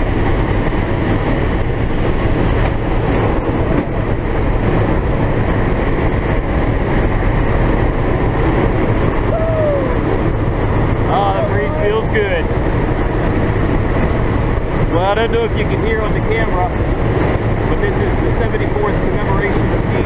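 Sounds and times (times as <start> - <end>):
aircraft engine drone: 0.0 - 20.0.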